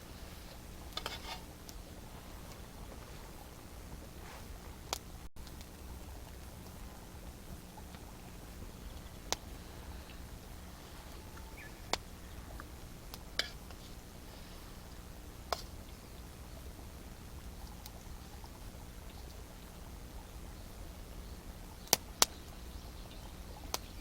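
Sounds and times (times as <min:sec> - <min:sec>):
sharp crackling pops: 0:00.0 - 0:22.6, 0:23.6 - 0:24.0
campfire burning: 0:00.0 - 0:24.0.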